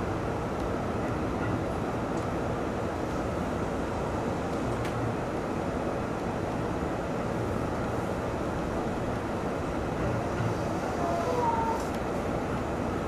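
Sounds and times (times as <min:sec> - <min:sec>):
electric train wheels rumbling: 0:00.0 - 0:13.0.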